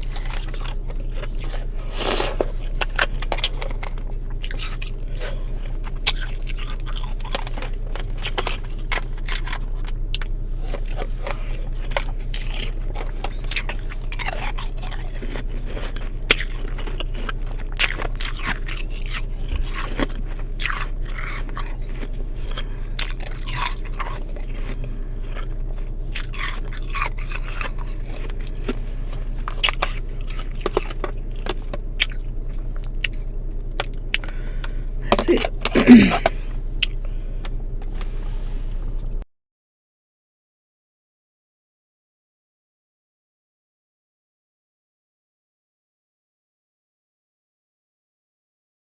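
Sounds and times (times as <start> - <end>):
crunching and chewing frost: 0.0 - 39.2
low hum: 0.0 - 39.2.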